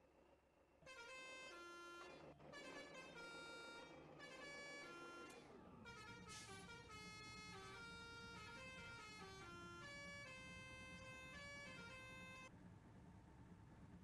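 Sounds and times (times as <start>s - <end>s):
truck air horn melody: 0.8s - 12.5s.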